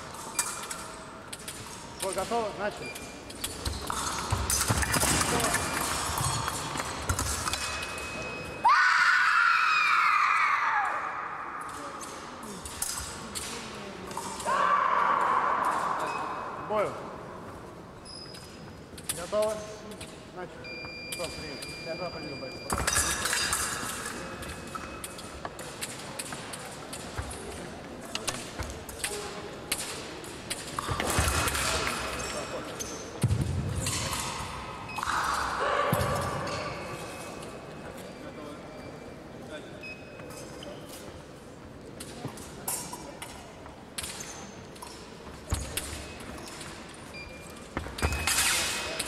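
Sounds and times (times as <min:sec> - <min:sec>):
fencing blades clinking: 0:00.0 - 0:08.6, 0:11.6 - 0:17.0, 0:21.0 - 0:49.0.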